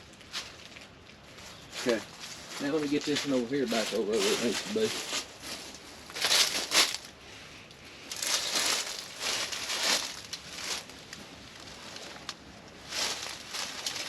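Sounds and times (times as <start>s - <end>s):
tarp fabric rustling and crinkling: 0.0s - 7.2s, 8.0s - 14.0s.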